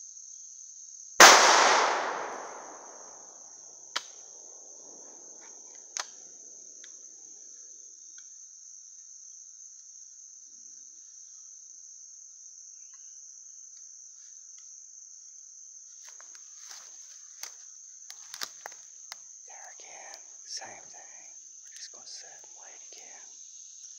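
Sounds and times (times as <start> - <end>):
insect chorus: 0.0 - 23.9.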